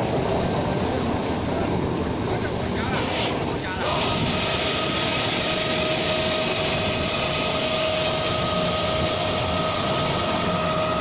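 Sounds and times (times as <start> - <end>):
concrete pump mechanical drone: 0.0 - 11.0
steady high whine: 0.0 - 11.0.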